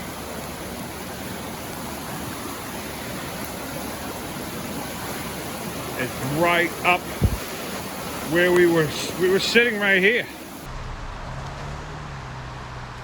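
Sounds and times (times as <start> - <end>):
flooded river rushing: 0.0 - 10.7.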